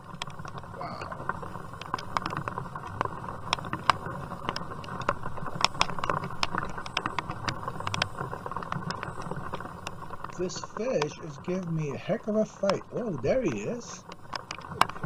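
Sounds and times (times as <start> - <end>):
rain hiss: 0.0 - 15.0.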